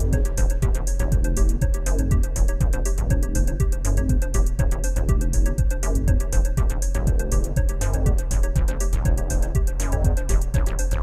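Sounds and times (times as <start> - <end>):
fast hi-hats: 0.0 - 11.0
kick drum thumping: 0.0 - 11.0
synth bass line: 0.0 - 11.0.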